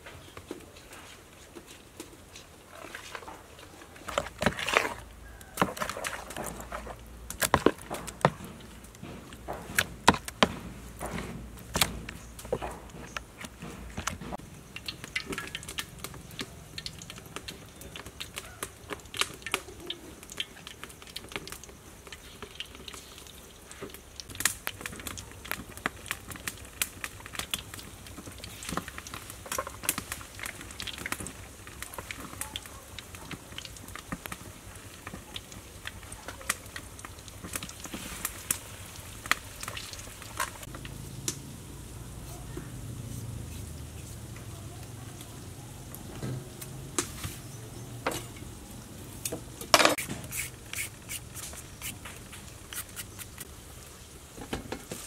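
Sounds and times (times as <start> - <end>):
fish deep-frying in hot oil: 0.0 - 55.0.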